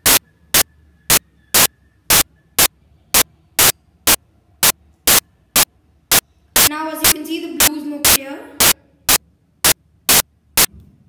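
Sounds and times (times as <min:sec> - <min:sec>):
static hiss bursts: 0:00.0 - 0:10.8.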